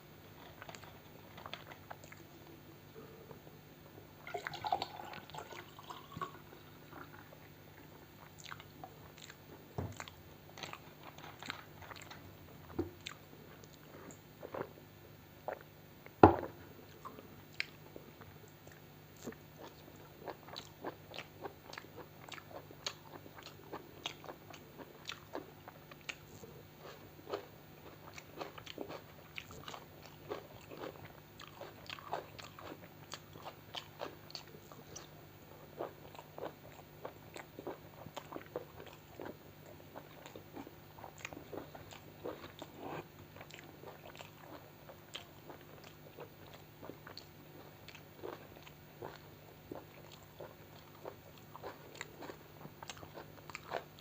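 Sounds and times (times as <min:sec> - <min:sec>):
faint low hum: 0:00.0 - 0:54.0
person chewing food: 0:00.3 - 0:03.4, 0:04.6 - 0:54.0.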